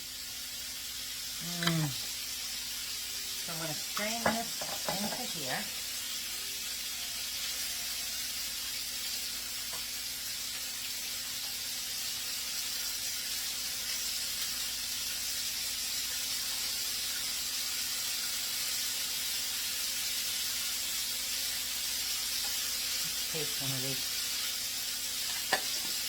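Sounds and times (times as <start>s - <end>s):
chicken frying in oil: 0.0s - 26.0s.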